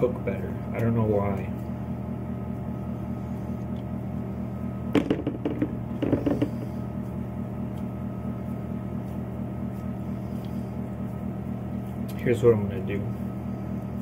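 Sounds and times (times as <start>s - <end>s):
electrical appliance hum: 0.0s - 14.0s.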